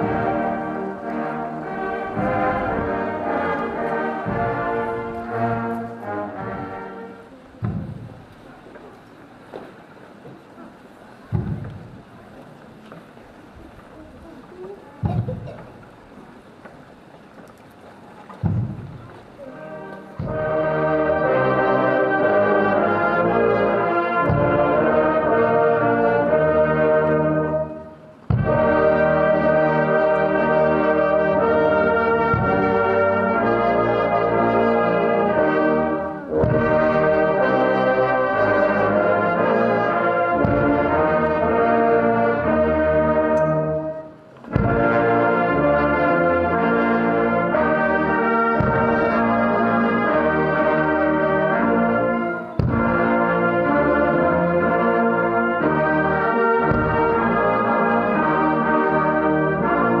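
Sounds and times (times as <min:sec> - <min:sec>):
marching wind band playing: 0:00.0 - 1:00.0.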